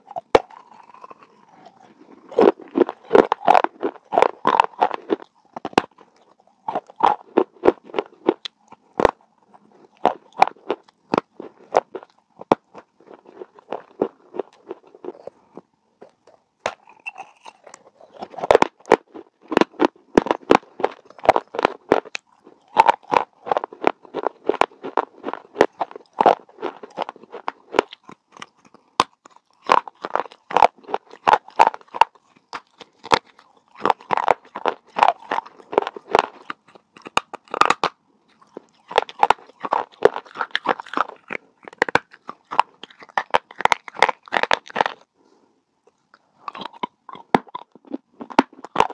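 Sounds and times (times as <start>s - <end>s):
person chewing clay pot crunches: 0.0s - 45.1s, 45.8s - 48.9s.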